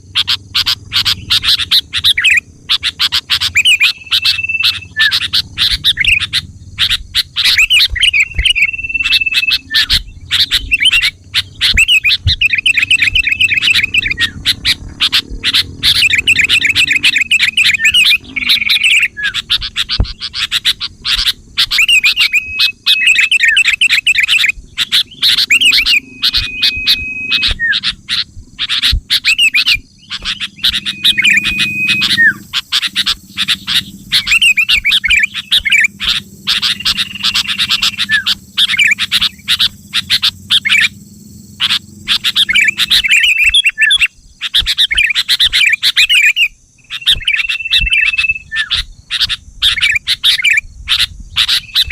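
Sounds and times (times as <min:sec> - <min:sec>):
bulbul song: 0:00.0 - 0:51.9.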